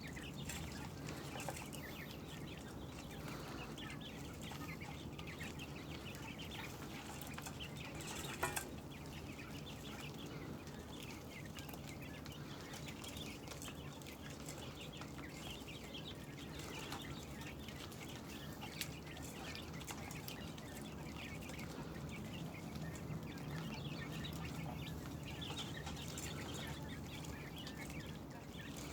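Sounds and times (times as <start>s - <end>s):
quail chirping and peeping: 0.0s - 28.9s
steady low hum: 0.0s - 28.9s.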